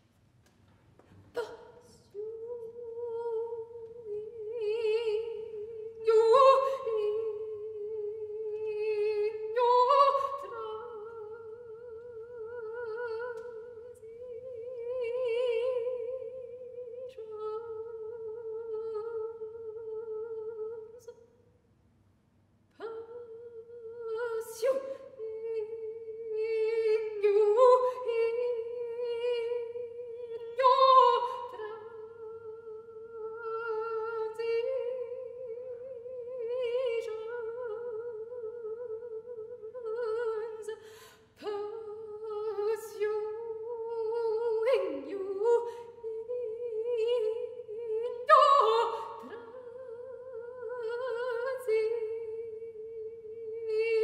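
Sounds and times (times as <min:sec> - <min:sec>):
soprano singing a cappella: 0:01.4 - 0:21.2, 0:22.7 - 0:54.0.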